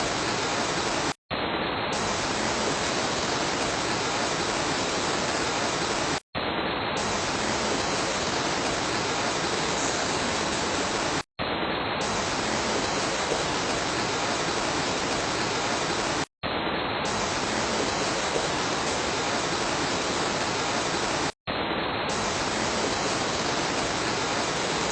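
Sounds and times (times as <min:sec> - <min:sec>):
steady rain hiss: 0:00.0 - 0:01.2, 0:01.9 - 0:06.2, 0:07.0 - 0:11.3, 0:12.0 - 0:16.3, 0:17.1 - 0:21.4, 0:22.1 - 0:24.9.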